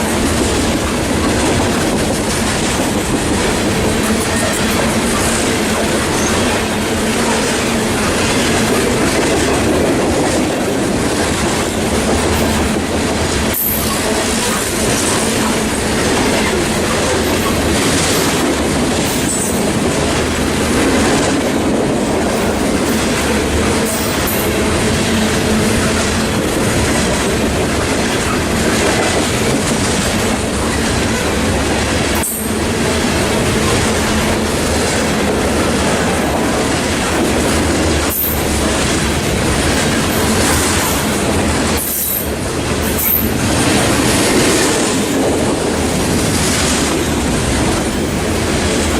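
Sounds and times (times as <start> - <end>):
train wheels clattering over track: 0.0 - 48.9.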